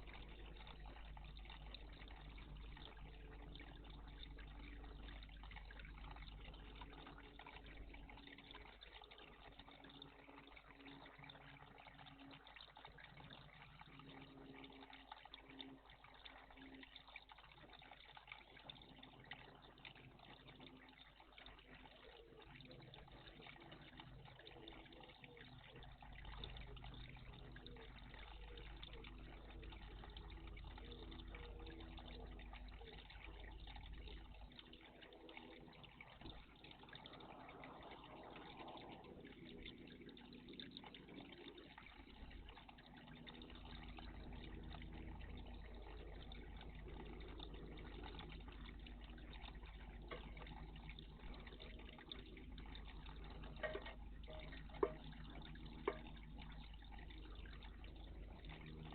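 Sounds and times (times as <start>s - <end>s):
water trickling in bird bath: 0.0s - 58.9s.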